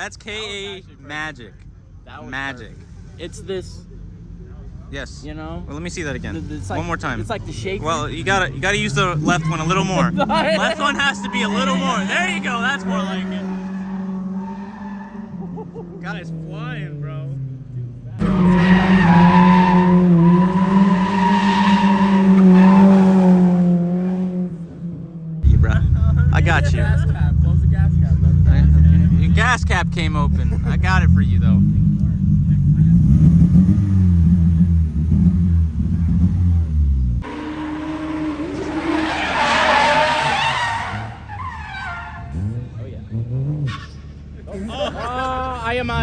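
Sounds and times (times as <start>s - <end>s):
tires squealing: 2.2s - 24.8s, 25.4s - 46.0s
car engine at high revs: 2.3s - 46.0s.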